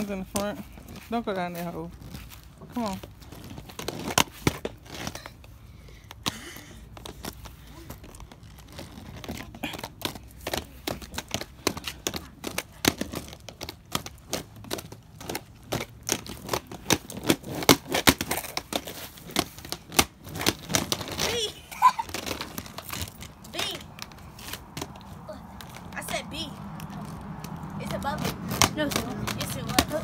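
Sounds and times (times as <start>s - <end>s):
skate wheels rolling on concrete: 0.0s - 30.0s.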